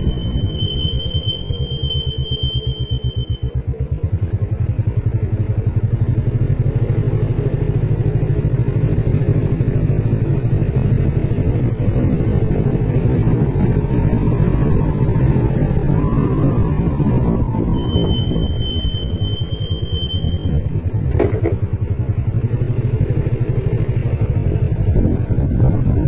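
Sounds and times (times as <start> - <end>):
small motorcycle engine running: 1.7 - 15.0, 18.3 - 26.0.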